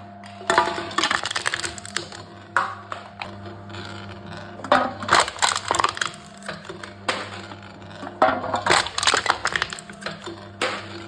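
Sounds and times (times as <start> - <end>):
machine crushing metal cans: 0.2 - 11.0.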